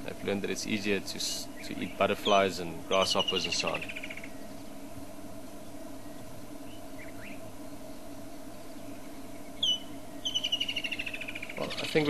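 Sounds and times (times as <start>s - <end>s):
steady low hum: 0.0s - 12.0s
faint bird chirps: 1.2s - 4.7s, 5.6s - 12.0s.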